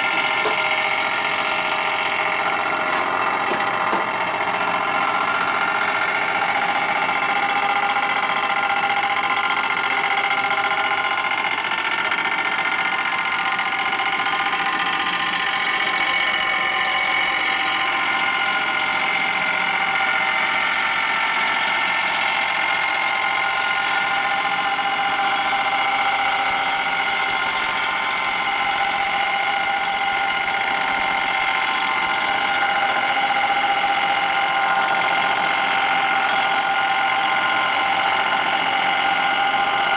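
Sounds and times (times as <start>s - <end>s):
machine tool cutting metal: 0.0s - 39.9s.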